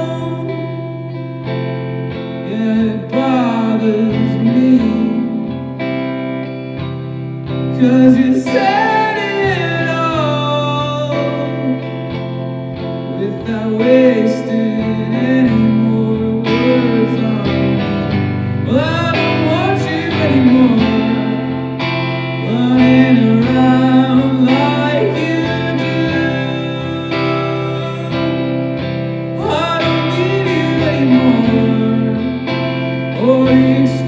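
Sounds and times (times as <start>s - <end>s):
person singing: 0.0s - 6.4s, 7.5s - 34.0s
guitar: 0.0s - 34.0s.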